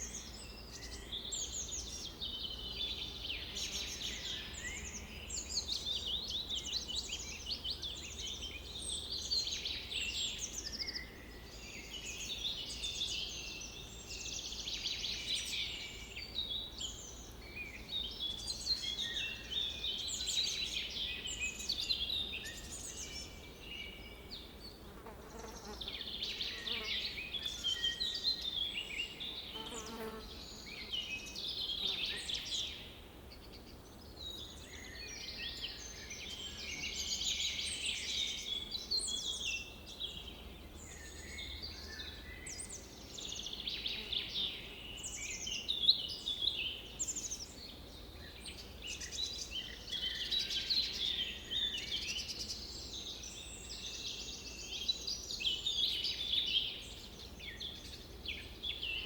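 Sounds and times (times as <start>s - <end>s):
wild birds singing: 0.0s - 59.0s.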